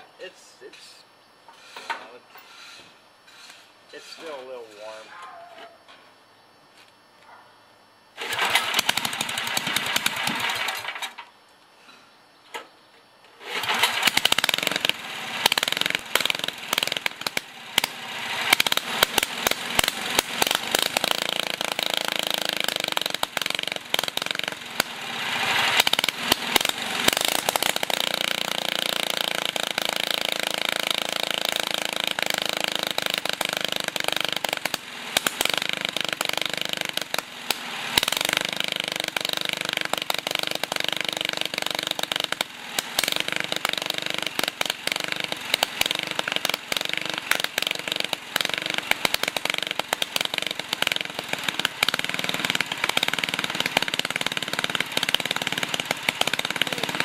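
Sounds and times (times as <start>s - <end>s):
garden tractor engine starting: 8.2s - 11.3s, 13.4s - 57.0s.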